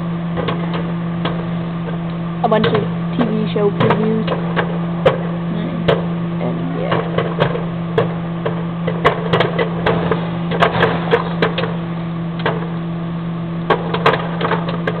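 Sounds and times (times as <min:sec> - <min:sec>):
microwave oven humming: 0:00.0 - 0:15.0
popcorn popping: 0:00.1 - 0:15.0.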